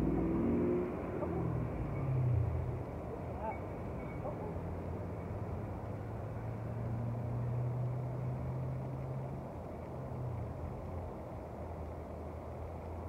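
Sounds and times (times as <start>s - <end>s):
low motor hum: 0.0s - 12.4s.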